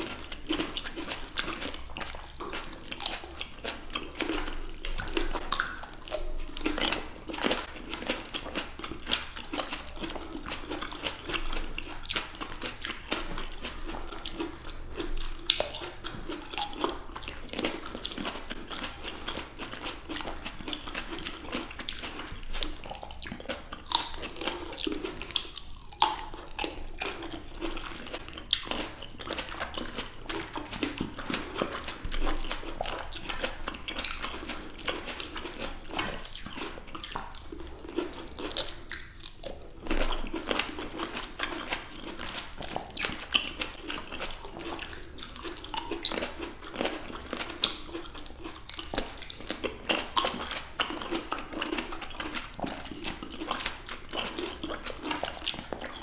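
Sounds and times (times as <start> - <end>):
people chewing grapes: 0.0 - 56.0.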